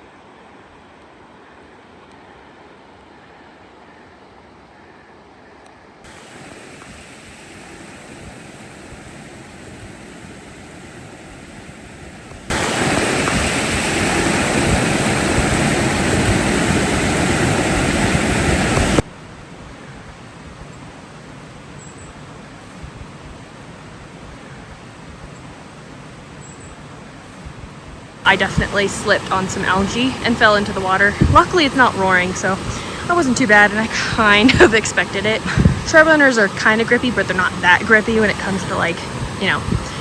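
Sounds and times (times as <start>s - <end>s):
creek water rushing: 0.0s - 40.0s.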